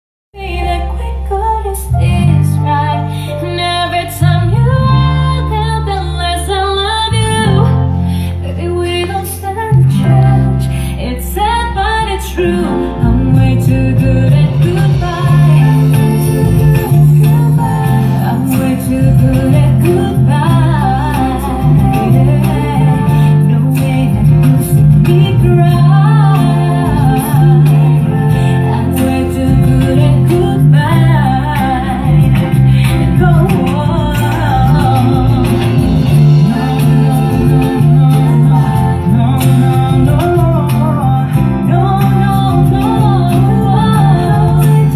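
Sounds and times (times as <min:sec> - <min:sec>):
song over loudspeakers: 0:00.4 - 0:44.9.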